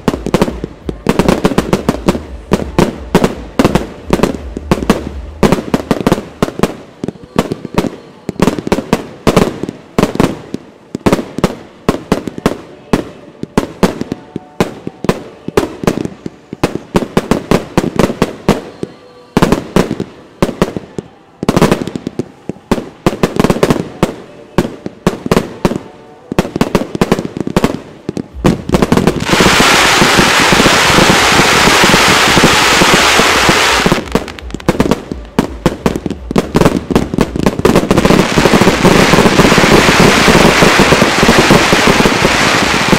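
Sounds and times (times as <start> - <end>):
fireworks bangs and bursts: 0.0 - 42.9.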